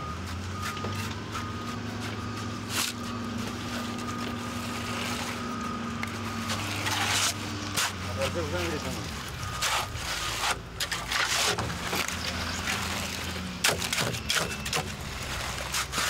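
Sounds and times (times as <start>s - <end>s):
shovels scraping into gravel: 1.7s - 5.4s, 6.2s - 16.0s.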